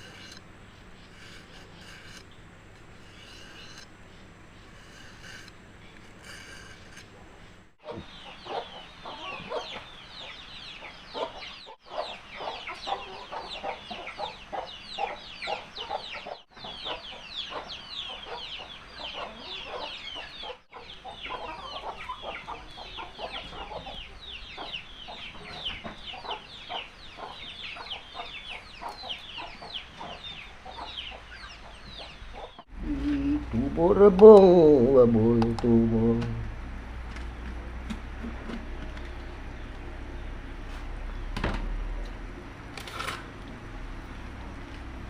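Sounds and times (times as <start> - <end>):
chickens calling: 0.0 - 45.0.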